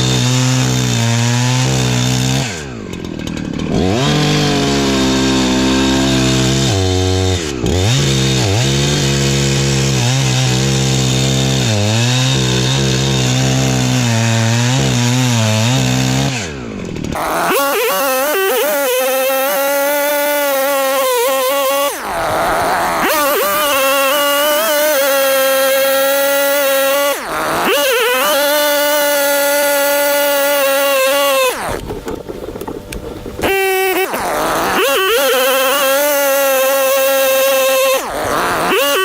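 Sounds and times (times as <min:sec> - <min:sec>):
chainsaw cutting firewood: 0:00.0 - 0:39.0.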